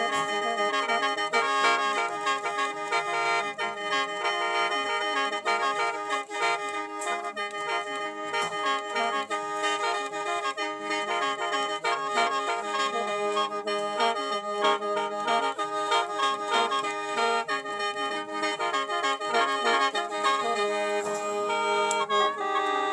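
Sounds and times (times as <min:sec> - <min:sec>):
bamboo mouth organ melody: 0:00.0 - 0:22.9.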